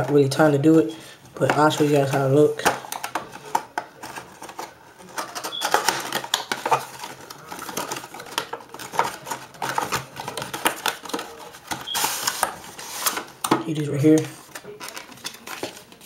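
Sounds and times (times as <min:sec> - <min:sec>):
packaging crinkling and scraping: 0:01.4 - 0:16.0.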